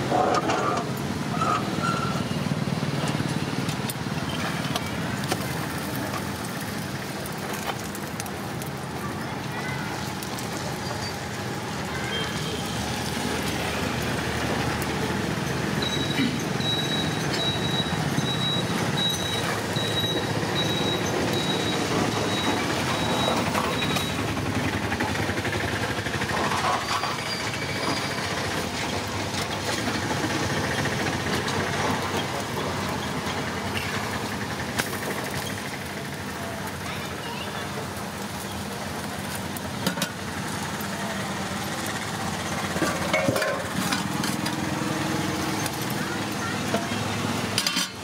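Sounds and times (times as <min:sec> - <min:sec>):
street traffic noise: 0:00.0 - 0:48.0.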